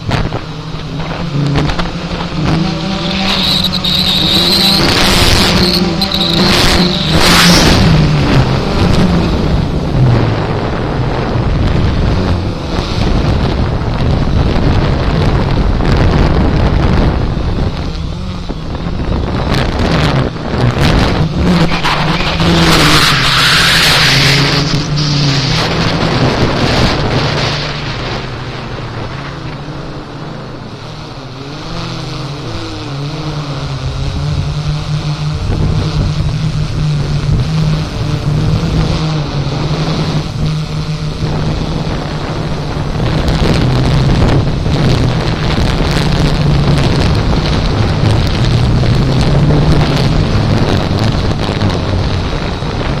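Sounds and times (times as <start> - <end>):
drone propellers humming: 0.0 - 53.0
wind buffeting microphone: 0.0 - 53.0.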